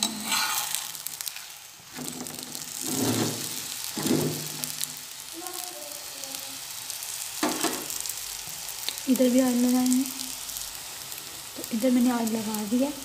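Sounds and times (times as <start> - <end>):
oil sizzling under flatbread: 0.0 - 13.0.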